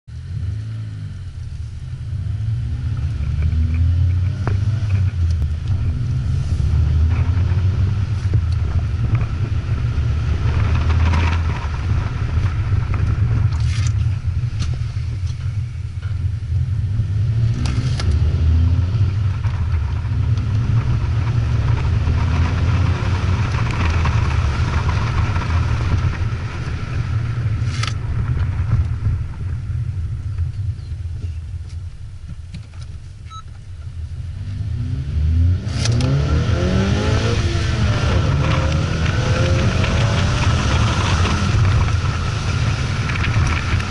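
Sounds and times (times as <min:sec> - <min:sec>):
car engine drone: 0:00.0 - 0:43.9.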